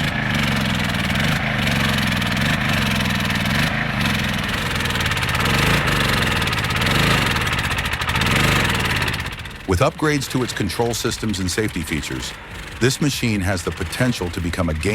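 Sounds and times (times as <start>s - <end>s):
machine engine running under load: 0.0s - 14.9s.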